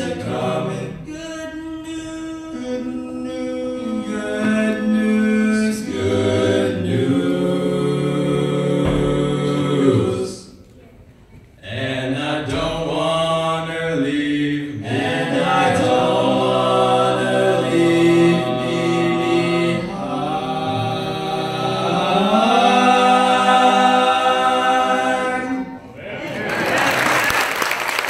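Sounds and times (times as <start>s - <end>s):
male vocal quartet singing: 0.0s - 10.6s, 11.6s - 26.4s.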